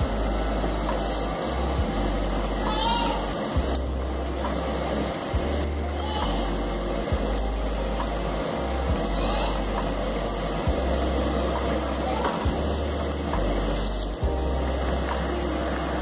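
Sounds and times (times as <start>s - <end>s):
flatbread sizzling on hot iron: 0.0s - 16.0s.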